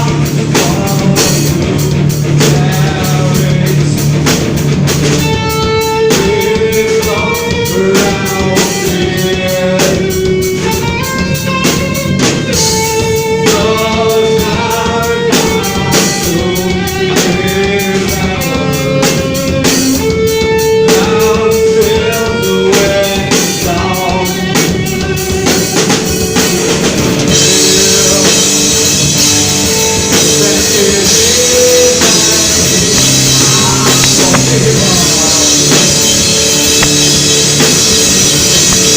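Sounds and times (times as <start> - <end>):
rock band music: 0.0 - 38.9.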